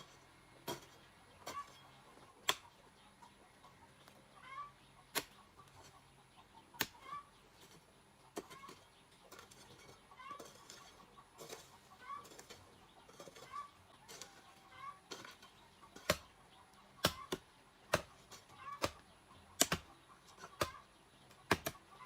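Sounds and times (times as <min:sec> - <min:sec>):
chickens clucking softly: 0:00.0 - 0:22.0.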